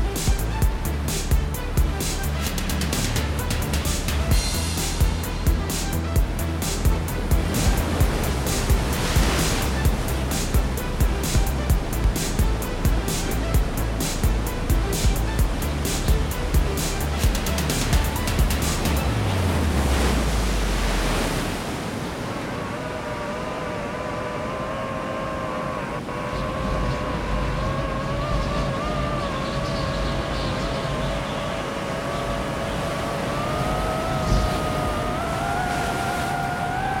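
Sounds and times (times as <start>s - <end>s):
drone propellers whining: 0.0s - 37.0s
rushing background noise: 0.0s - 37.0s.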